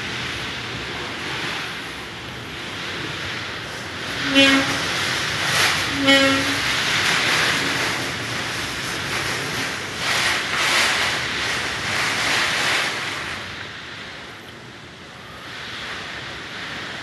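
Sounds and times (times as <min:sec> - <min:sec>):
hurricane wind gusting: 0:00.0 - 0:17.0.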